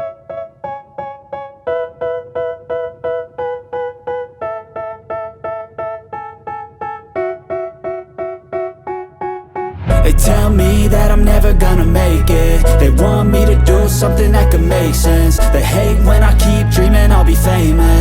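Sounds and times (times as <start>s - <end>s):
electric piano repeated chords: 0.0s - 18.0s.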